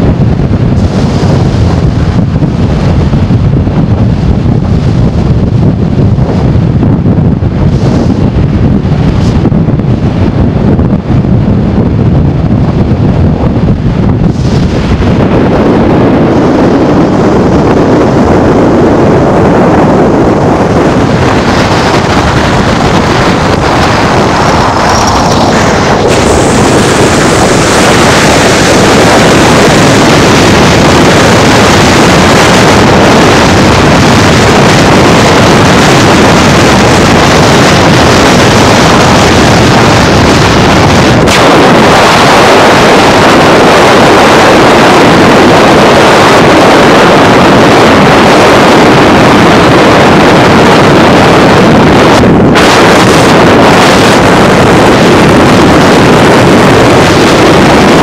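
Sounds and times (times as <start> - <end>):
wind and road noise inside car: 0.0 - 58.0.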